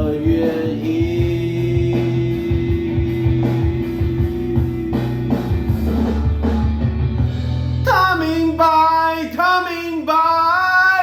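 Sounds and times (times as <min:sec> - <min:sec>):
person singing: 0:00.0 - 0:05.7, 0:07.9 - 0:11.0
rock music with guitar and drums: 0:00.0 - 0:09.6.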